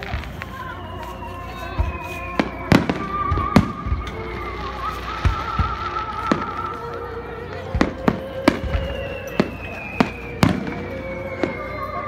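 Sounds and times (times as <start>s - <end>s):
descending firework whistle: 0.0s - 6.8s, 7.6s - 12.0s
firework bangs: 0.0s - 11.8s.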